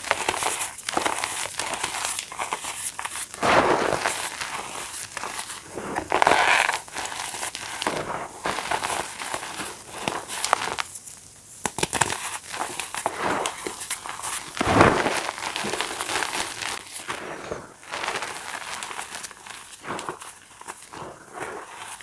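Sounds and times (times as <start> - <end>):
chalk being crushed: 0.0 - 22.0.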